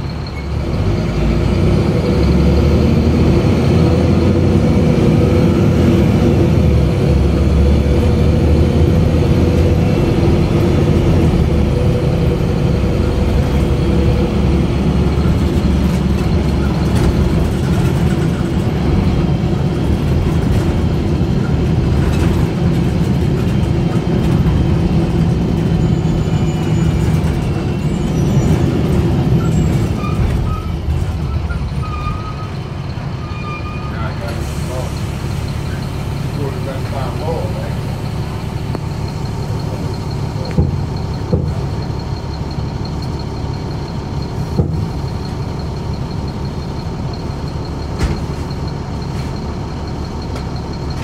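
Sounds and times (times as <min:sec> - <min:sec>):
bus diesel engine running: 0:00.0 - 0:51.0
road and body noise: 0:00.0 - 0:51.0.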